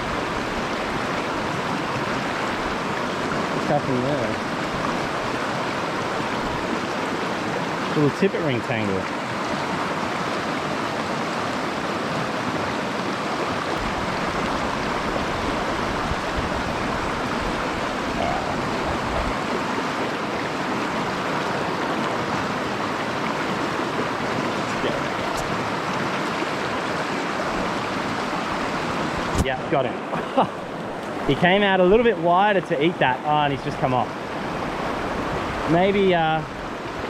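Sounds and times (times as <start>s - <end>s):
stream flowing over rocks: 0.0s - 37.0s.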